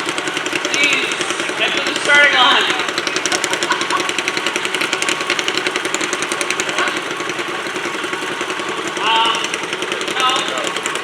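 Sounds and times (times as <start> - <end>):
garden tractor engine running hard: 0.0 - 11.0.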